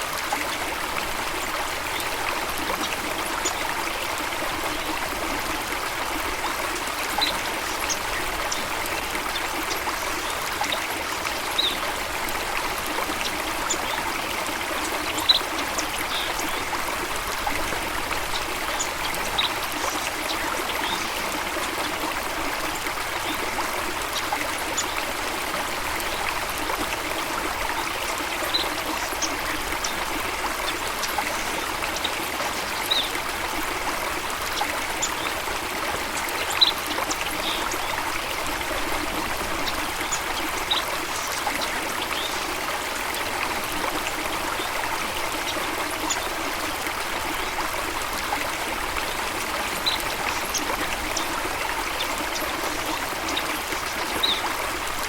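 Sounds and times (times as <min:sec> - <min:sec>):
stream water rushing and trickling: 0:00.0 - 0:55.0.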